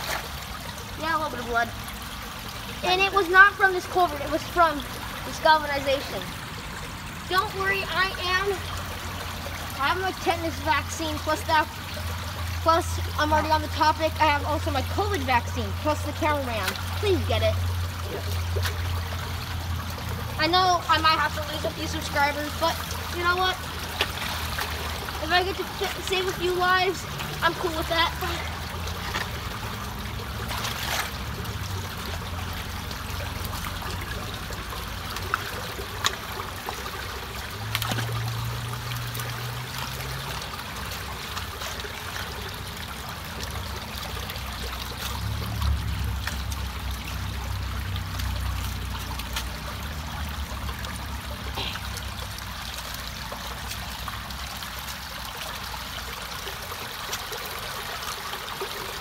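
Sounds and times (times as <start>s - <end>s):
water streaming into culvert: 0.0s - 59.0s.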